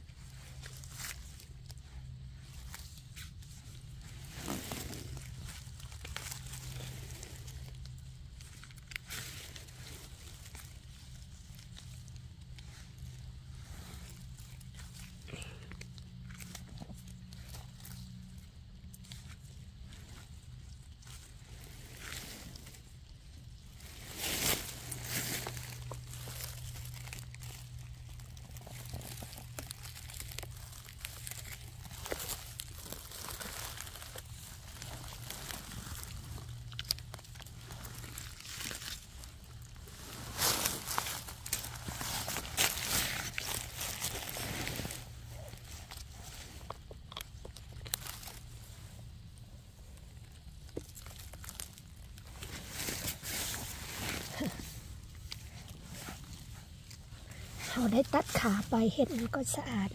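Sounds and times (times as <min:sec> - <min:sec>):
dry leaves and twigs crackling: 0:00.0 - 0:59.9
low steady hum: 0:00.0 - 0:59.9.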